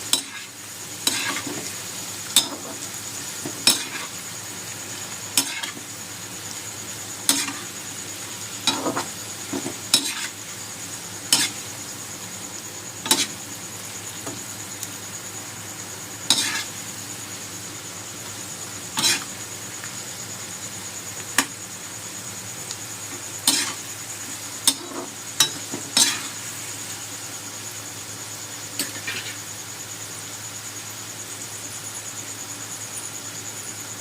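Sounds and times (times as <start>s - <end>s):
fries sizzling in hot oil: 0.0s - 34.0s.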